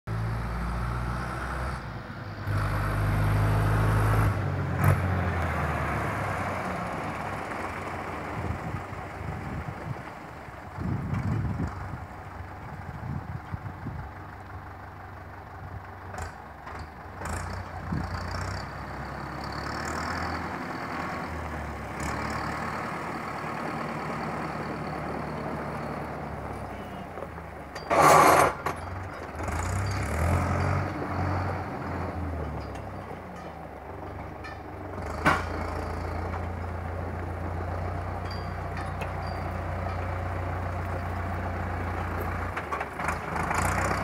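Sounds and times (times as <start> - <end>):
tractor diesel engine running: 0.1 - 44.0.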